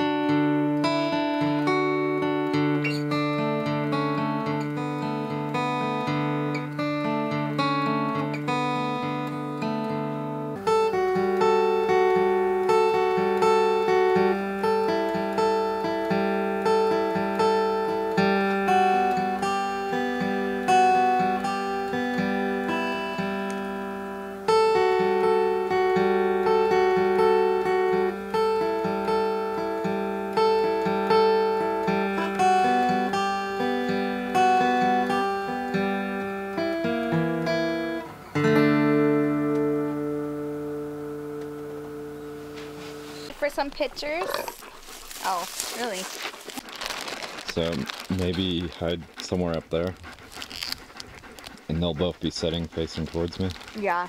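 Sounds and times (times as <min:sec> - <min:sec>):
acoustic guitar melody: 0:00.0 - 0:54.0.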